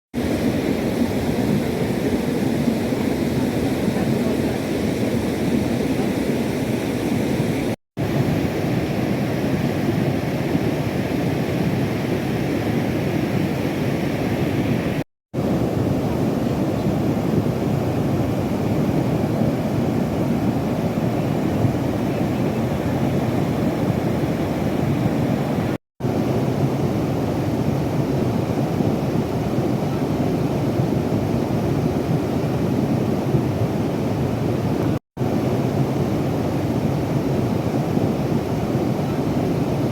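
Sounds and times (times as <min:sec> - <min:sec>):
floodwater rushing down stream: 0:00.1 - 0:39.7.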